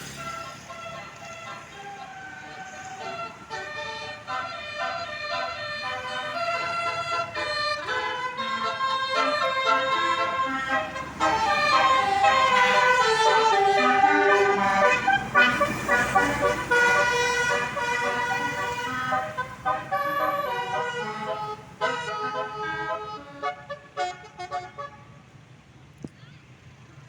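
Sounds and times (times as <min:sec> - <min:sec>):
musical air horn melody: 0:02.7 - 0:25.1.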